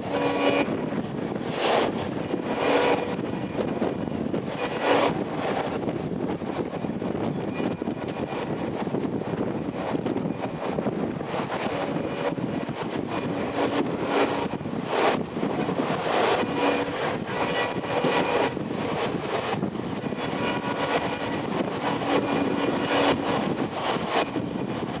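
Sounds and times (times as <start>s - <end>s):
diesel locomotive engine drone: 0.0s - 25.0s
train running on rails: 0.0s - 25.0s
wind rushing past: 0.0s - 25.0s.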